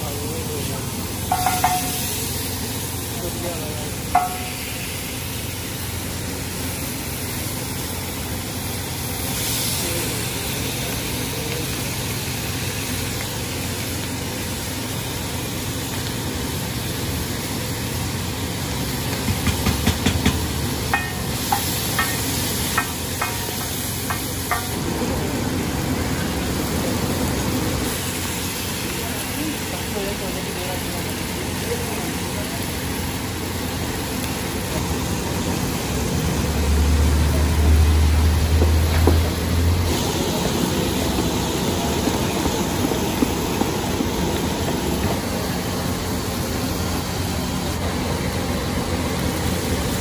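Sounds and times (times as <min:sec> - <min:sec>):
food sizzling on griddle: 0:00.0 - 0:50.0.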